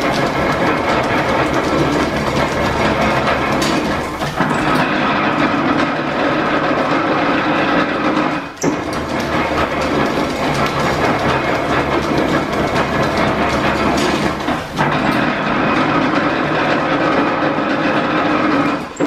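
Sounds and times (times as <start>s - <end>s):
metal planer clattering: 0.0s - 19.0s.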